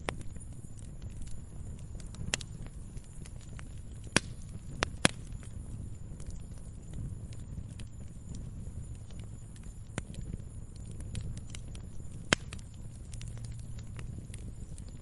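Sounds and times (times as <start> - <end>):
fire crackling and popping: 0.0 - 15.0
rumble of flames: 0.0 - 15.0.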